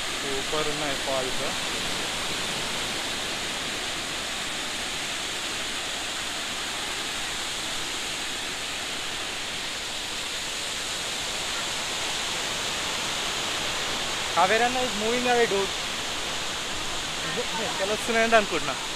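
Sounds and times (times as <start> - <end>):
waterfall rushing over rocks: 0.0 - 18.9.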